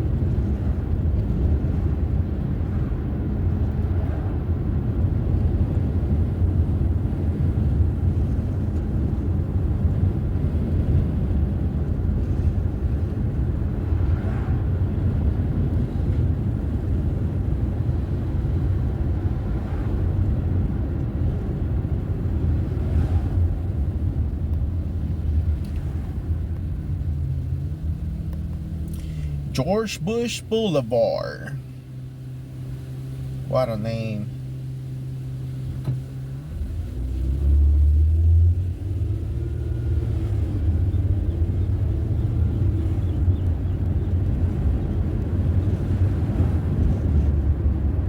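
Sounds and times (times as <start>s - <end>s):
car driving: 0.0s - 48.0s.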